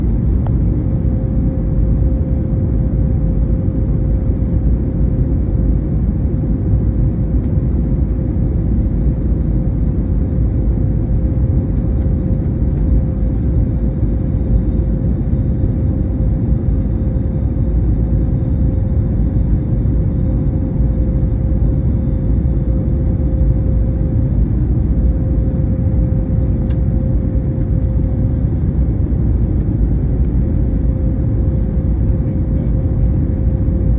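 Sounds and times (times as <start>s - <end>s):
airliner engine and airflow rumble: 0.0s - 33.9s
constant mid-pitched hum: 0.0s - 33.9s.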